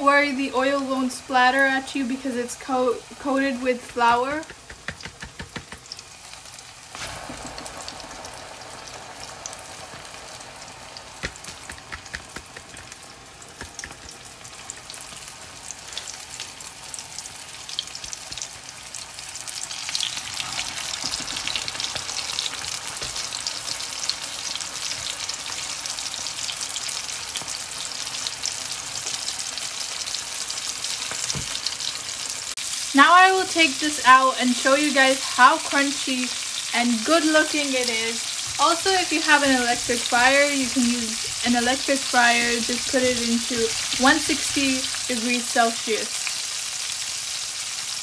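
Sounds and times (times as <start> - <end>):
chicken deep-frying in oil: 0.0 - 48.0.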